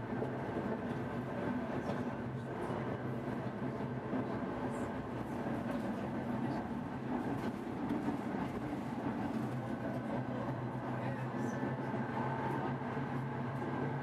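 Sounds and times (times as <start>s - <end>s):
tram electrical hum and whir: 0.0s - 14.0s.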